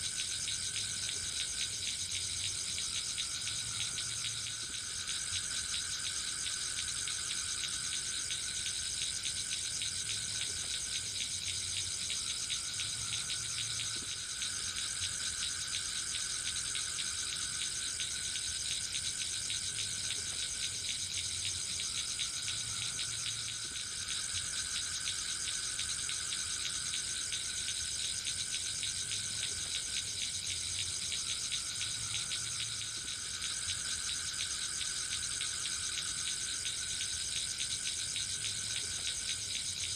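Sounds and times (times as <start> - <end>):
forest insects trilling: 0.0 - 39.9
lower insect trill: 0.0 - 39.9.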